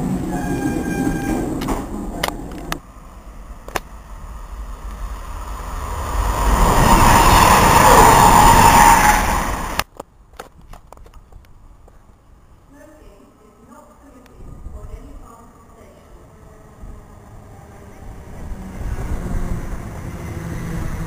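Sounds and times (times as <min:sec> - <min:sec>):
train passing at speed: 0:00.0 - 0:09.8, 0:13.6 - 0:21.0.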